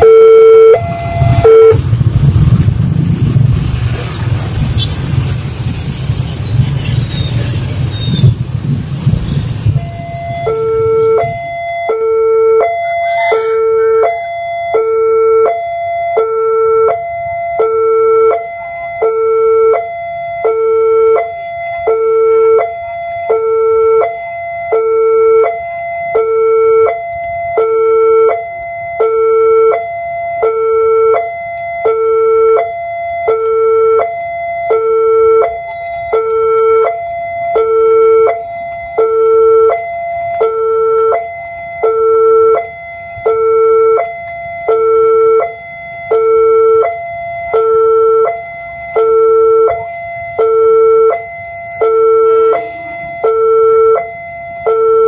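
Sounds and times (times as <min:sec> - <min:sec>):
level crossing two-tone alarm: 0:00.0 - 0:01.8, 0:09.6 - 0:55.0
motorcycle engines: 0:00.0 - 0:55.0
traffic rumble: 0:00.0 - 0:55.0.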